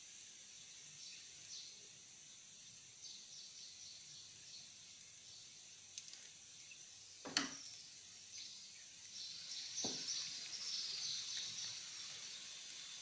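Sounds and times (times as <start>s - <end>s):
faint high-pitched chirping: 0.0s - 13.0s.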